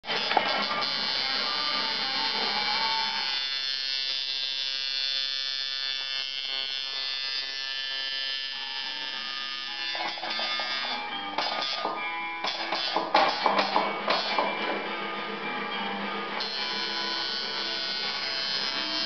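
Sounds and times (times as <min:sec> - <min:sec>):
tattoo machine buzzing: 0:00.1 - 0:14.5, 0:16.4 - 0:19.0.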